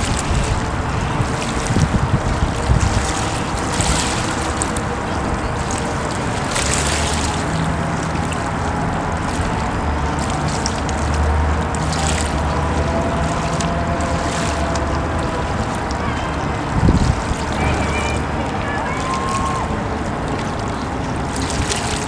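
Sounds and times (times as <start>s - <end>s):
low engine hum: 0.0s - 22.0s
water splashing and running: 0.0s - 22.0s.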